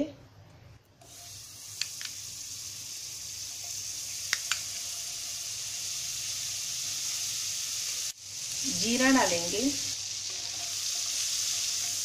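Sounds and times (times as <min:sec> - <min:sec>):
butter sizzling in a pan: 0:01.0 - 0:12.0.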